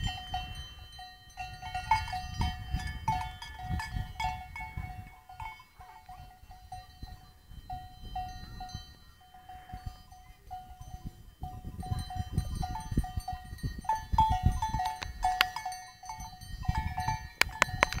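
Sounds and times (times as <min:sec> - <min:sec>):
livestock bells clanking: 0:00.0 - 0:18.0.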